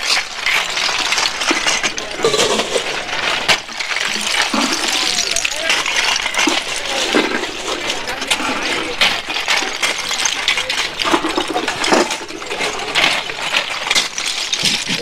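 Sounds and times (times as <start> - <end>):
shells clattering into metal buckets: 0.0 - 15.0
shovels scraping shells: 0.0 - 15.0.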